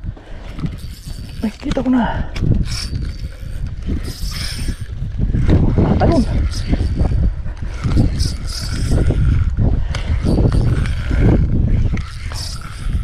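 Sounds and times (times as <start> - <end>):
fishing reel clicking: 0.3 - 13.0.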